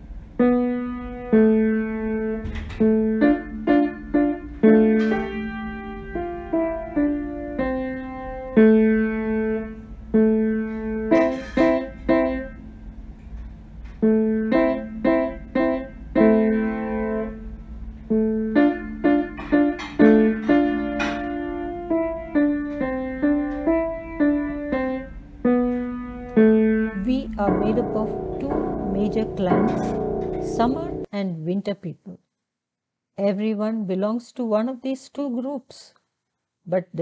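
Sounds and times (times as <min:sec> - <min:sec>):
slow piano music: 0:00.0 - 0:31.1.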